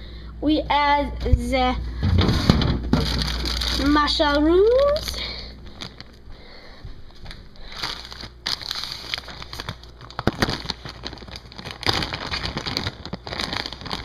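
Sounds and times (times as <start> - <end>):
crinkling and rustling: 2.0 - 6.4, 7.1 - 14.0.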